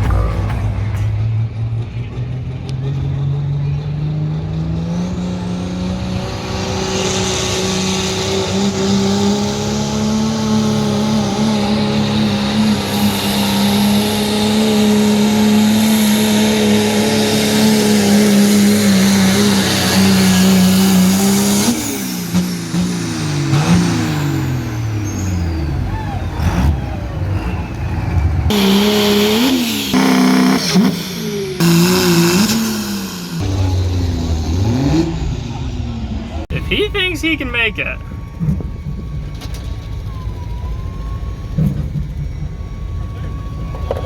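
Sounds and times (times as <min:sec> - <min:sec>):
diesel truck engine at full throttle: 0:00.0 - 0:44.0.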